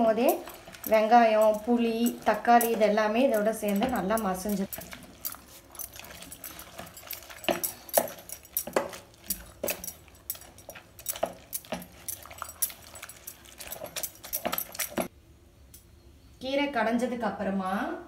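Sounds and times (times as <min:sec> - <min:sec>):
wooden churner knocking against pot: 0:00.0 - 0:15.1.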